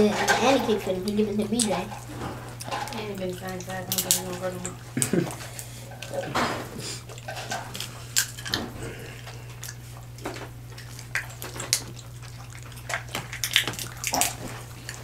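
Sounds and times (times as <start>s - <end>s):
steady low hum: 0.0s - 15.0s
wet chewing and lip-smacking: 1.0s - 6.2s, 6.9s - 15.0s.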